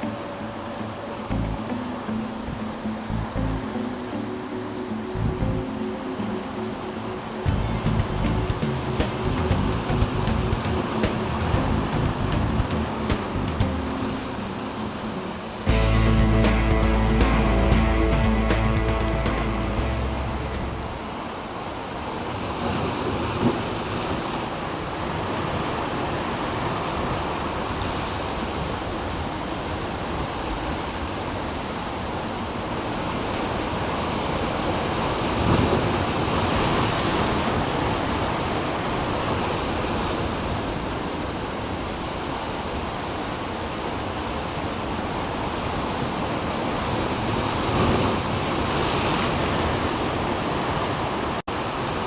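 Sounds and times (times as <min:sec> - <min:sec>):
ocean surf washing between rocks: 0:00.0 - 0:52.0.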